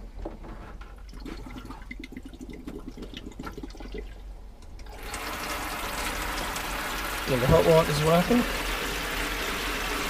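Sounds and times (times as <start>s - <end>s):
water gushing into plastic basin: 1.0s - 4.2s, 4.8s - 10.0s.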